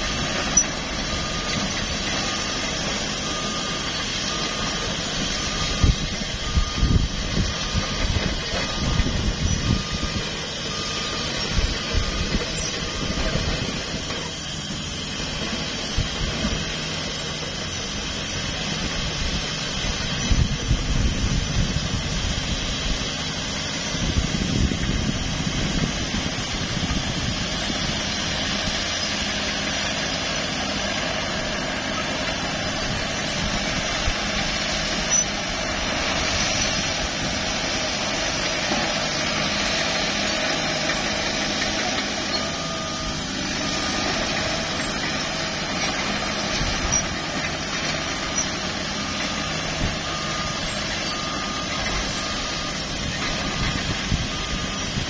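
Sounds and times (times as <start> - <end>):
diesel engines running: 0.0 - 55.0
reversing alarm beeping: 0.0 - 55.0.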